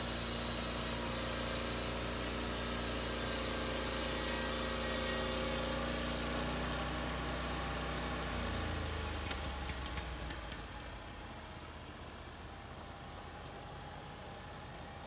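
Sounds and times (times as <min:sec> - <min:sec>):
sawmill engine idling: 0:00.0 - 0:15.0.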